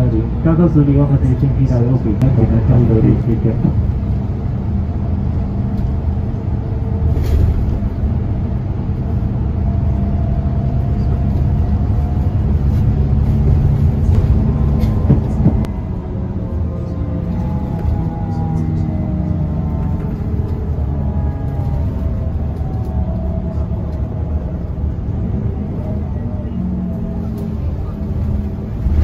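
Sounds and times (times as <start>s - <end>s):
coach engine and tyres rumbling: 0.0s - 29.0s.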